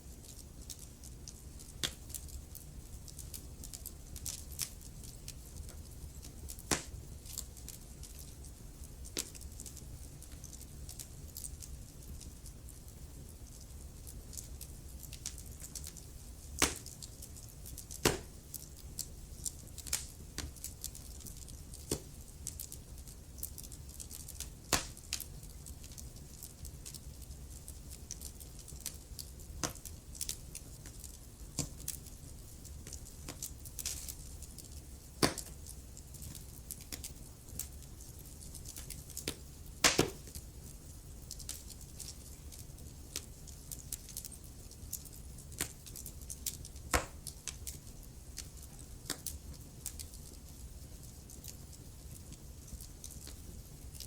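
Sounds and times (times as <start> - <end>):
fire hiss and rumble: 0.0 - 54.0
wood fire crackling and popping: 0.0 - 54.0.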